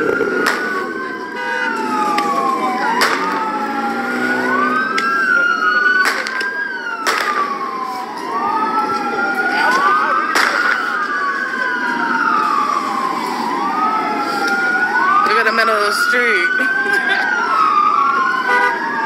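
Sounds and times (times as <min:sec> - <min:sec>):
police sirens wailing: 0:00.0 - 0:19.0.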